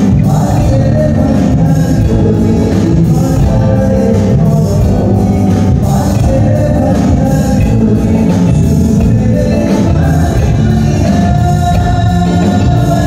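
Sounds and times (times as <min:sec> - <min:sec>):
bass guitar: 0:00.0 - 0:13.0
electric guitar: 0:00.0 - 0:13.0
male vocalist singing: 0:00.0 - 0:13.0.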